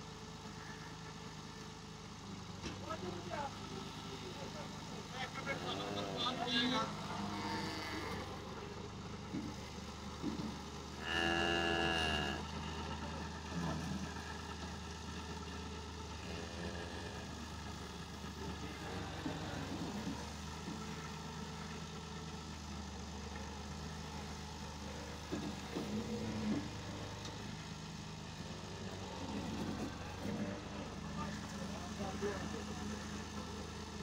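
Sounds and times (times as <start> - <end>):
tractor diesel engine idling: 0.0 - 11.0, 12.2 - 34.0.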